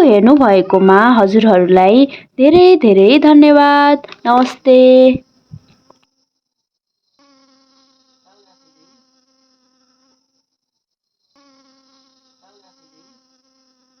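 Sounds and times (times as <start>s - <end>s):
honeybees buzzing: 0.0s - 6.2s, 7.0s - 14.0s.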